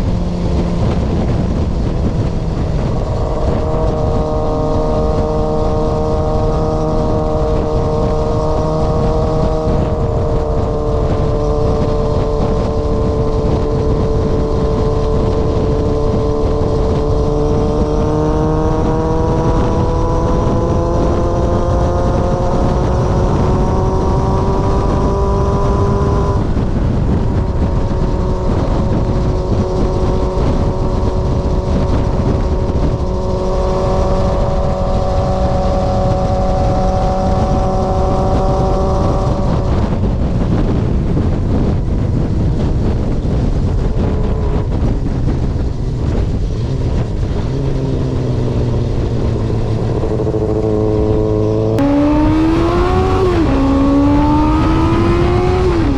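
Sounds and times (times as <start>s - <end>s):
motorcycle exhaust note: 0.0s - 55.9s.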